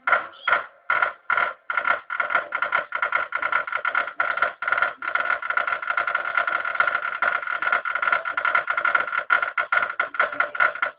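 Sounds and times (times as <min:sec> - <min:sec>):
balls rattling along track: 0:00.0 - 0:10.9.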